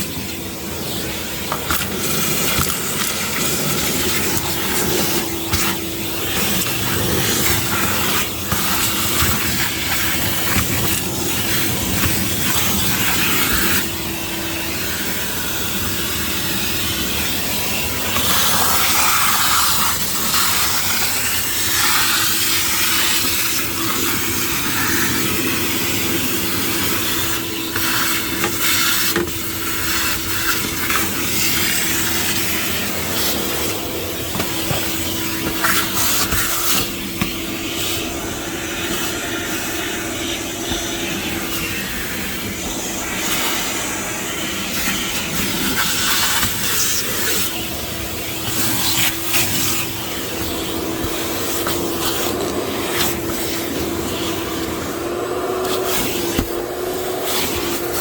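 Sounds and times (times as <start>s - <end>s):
rushing air suction: 0.0s - 58.0s
wet dry vacuum motor whine: 0.0s - 58.0s.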